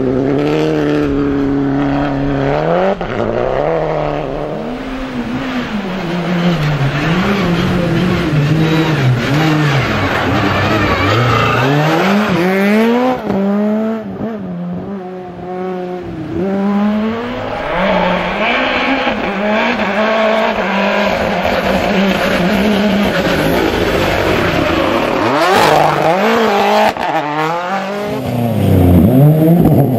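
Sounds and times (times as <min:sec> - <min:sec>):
rally car engines revving: 0:00.0 - 0:29.9.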